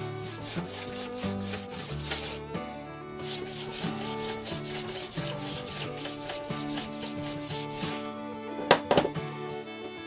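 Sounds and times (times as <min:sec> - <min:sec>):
hand scraper scraping rod: 0:00.0 - 0:02.5, 0:03.2 - 0:09.0
background music with melody: 0:00.0 - 0:10.0.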